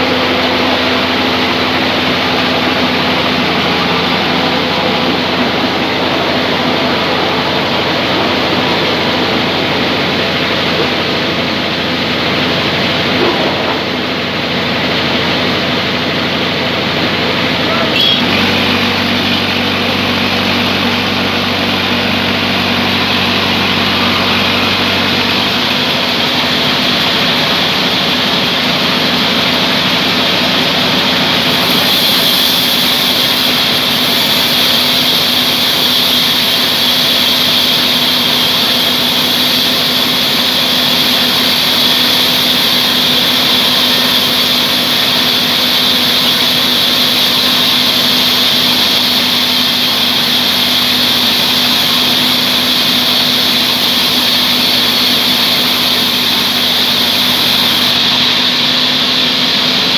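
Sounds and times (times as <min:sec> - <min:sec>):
saw hiss: 0:00.0 - 0:59.8
sawmill motor humming: 0:00.0 - 0:59.9.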